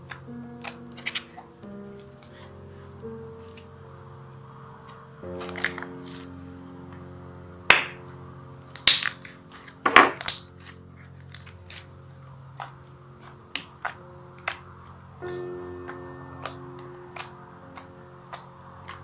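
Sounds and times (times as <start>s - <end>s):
soft instrumental music: 0.0s - 19.0s.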